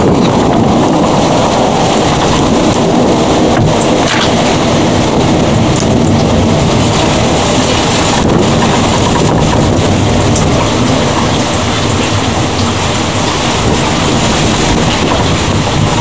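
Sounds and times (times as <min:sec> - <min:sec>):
heavy rain and storm rumble: 0:00.0 - 0:16.0.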